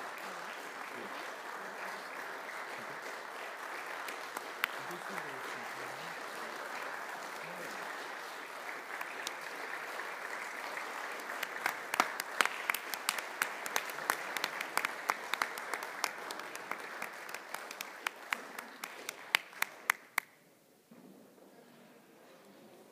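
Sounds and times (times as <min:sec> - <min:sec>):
audience applause: 0:00.0 - 0:20.3.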